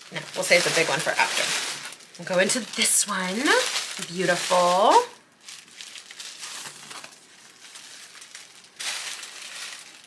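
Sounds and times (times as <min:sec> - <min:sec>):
tissue paper rustling and crinkling: 0:00.0 - 0:10.0.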